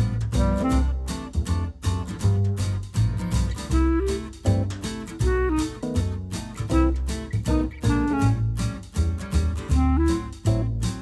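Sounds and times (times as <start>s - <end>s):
acoustic guitar strumming: 0.0s - 11.0s
deep bass line: 0.0s - 11.0s.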